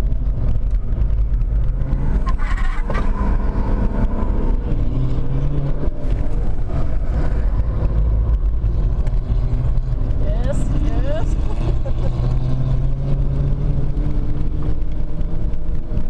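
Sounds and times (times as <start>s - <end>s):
diesel engine revving in cabin: 0.0s - 16.0s.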